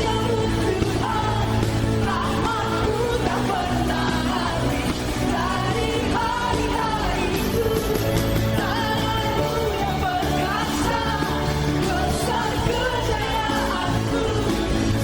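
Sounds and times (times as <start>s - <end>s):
pop-style band playing: 0.0s - 15.0s.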